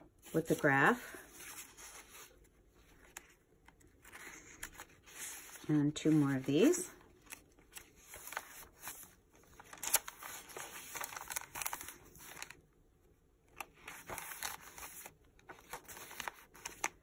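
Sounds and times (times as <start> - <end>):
paper pages rustling: 0.2 - 12.6, 13.5 - 17.0.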